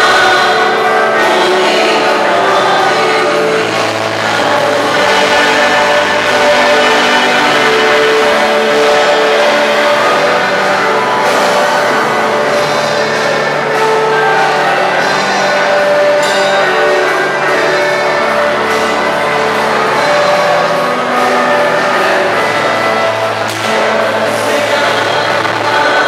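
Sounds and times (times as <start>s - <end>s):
acoustic guitar: 0.0s - 26.0s
drums: 0.0s - 26.0s
keyboard: 0.0s - 26.0s
people singing: 0.0s - 26.0s.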